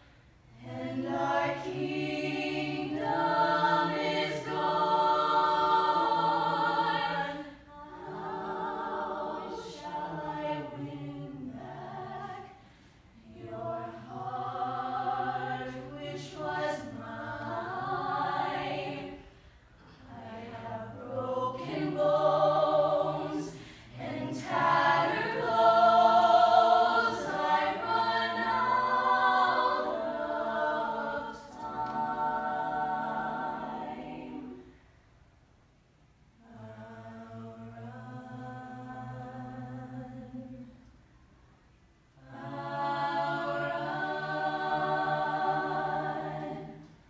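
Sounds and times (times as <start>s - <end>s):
a cappella choir singing: 0.0s - 35.0s, 36.4s - 41.1s, 42.1s - 47.0s.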